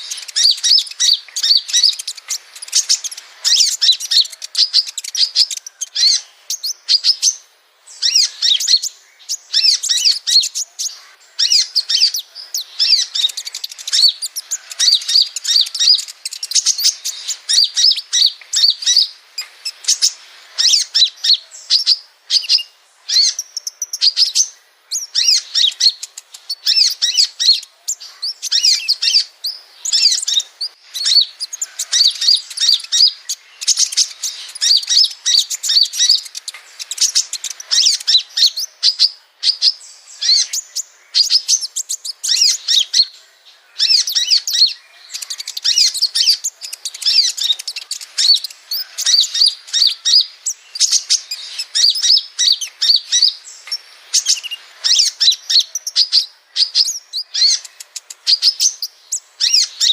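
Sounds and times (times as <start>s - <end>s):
birds chirping and twittering: 0.0s - 59.9s.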